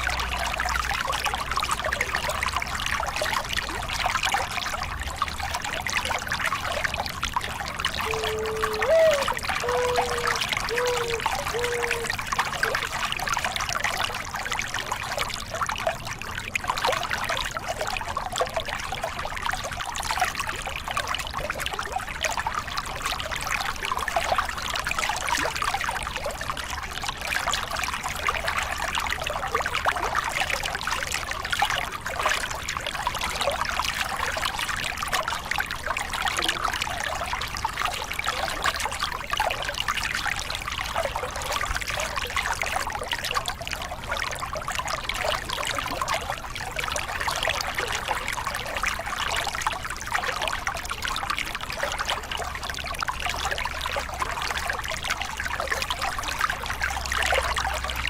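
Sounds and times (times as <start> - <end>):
water splashing over rocks: 0.0 - 58.0.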